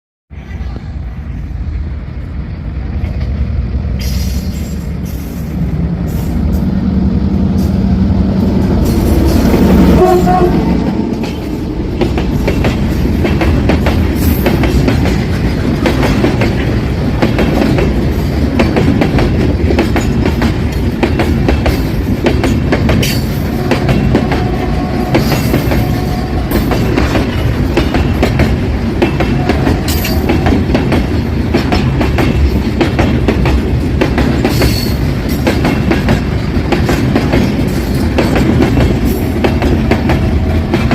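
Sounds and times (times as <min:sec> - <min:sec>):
diesel locomotive drone: 0:00.3 - 0:40.9
train wheel clatter: 0:07.4 - 0:40.9.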